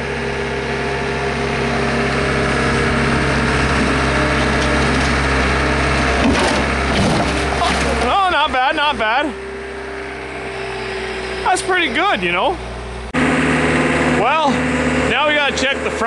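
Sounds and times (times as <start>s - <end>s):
loader engine running: 0.0s - 16.0s.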